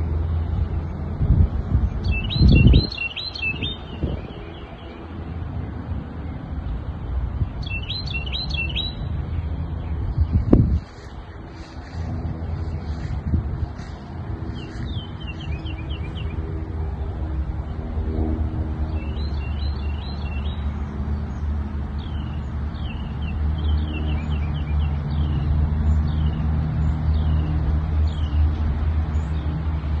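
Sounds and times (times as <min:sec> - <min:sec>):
steady low rumble: 0:00.0 - 0:30.0
birds chirping: 0:01.8 - 0:30.0.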